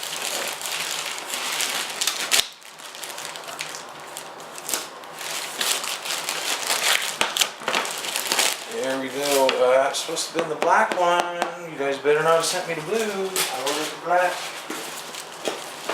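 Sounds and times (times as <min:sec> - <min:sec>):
packaging crinkling and rustling: 0:00.0 - 0:11.2, 0:12.3 - 0:15.9.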